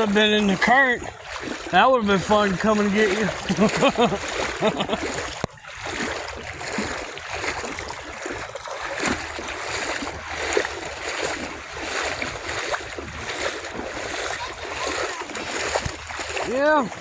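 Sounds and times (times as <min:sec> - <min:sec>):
floodwater rushing and splashing: 0:00.0 - 0:17.0.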